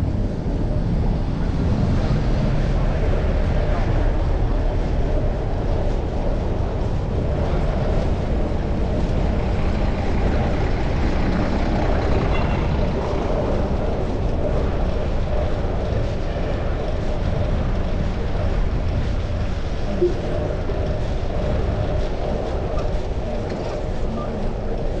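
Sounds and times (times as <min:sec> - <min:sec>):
bicycle road noise: 0:00.0 - 0:25.0
wind rumble: 0:00.0 - 0:25.0.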